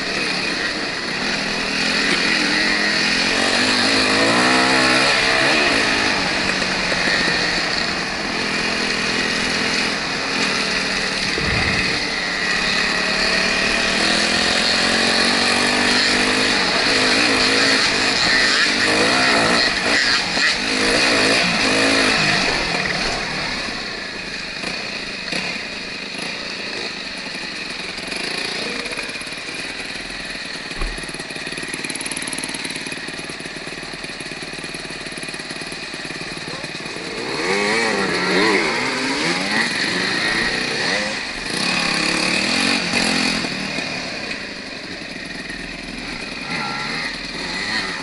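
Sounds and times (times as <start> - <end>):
dirt bike engine: 0.0 - 48.0.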